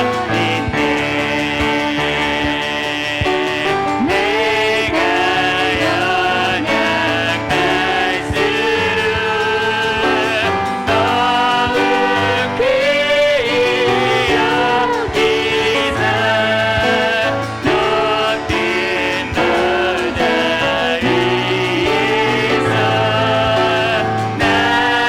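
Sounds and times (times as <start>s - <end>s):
piano accompaniment: 0.0s - 25.0s
vocalists singing praise song: 0.0s - 25.0s.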